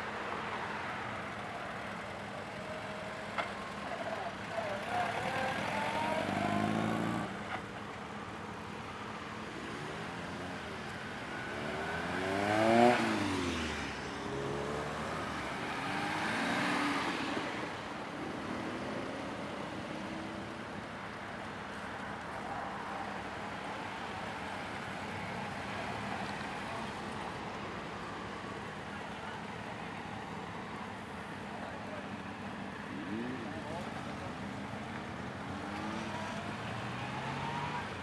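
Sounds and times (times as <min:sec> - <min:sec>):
cars driving past: 0:02.7 - 0:07.7, 0:09.4 - 0:20.6, 0:23.6 - 0:38.0.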